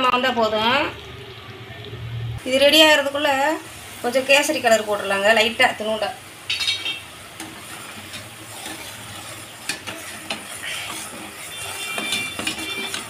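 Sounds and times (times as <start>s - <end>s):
syrup boiling in a pot: 0.2s - 6.3s, 6.9s - 13.0s.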